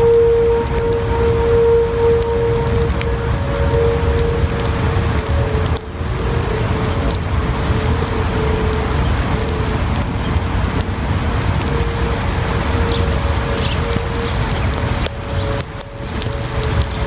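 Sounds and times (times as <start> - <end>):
faint steady tone: 0.0 - 17.0
heavy rain pouring: 0.0 - 17.0
wind rumble on microphone: 0.0 - 17.0.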